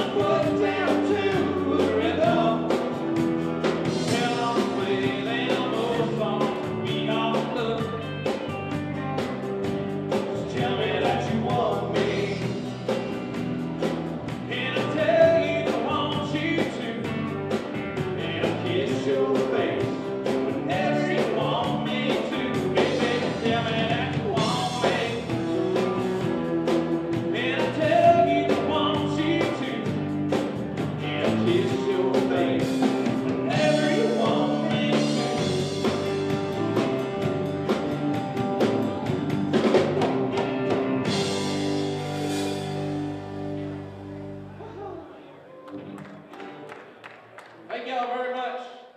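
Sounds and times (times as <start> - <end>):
live country band playing: 0.0 - 48.4.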